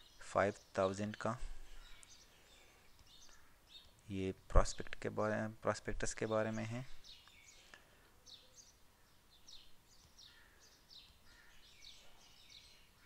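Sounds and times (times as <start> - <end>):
faint bird chirps: 0.0 - 5.0, 6.3 - 13.0.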